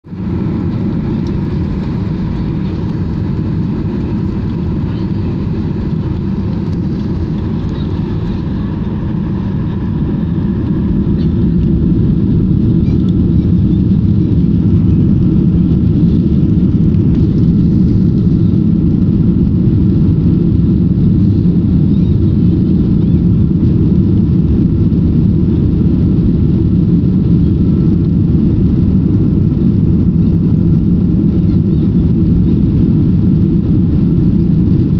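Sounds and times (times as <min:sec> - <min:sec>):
airplane cabin engine rumble: 0:00.0 - 0:34.9.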